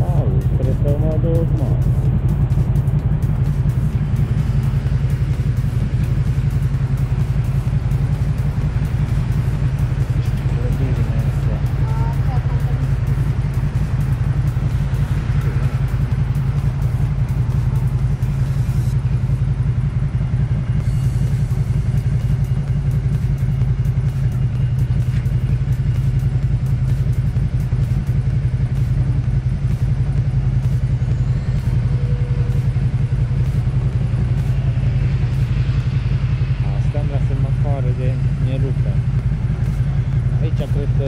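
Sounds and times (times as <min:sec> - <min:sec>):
motorcycle engine idling: 0:00.0 - 0:41.0.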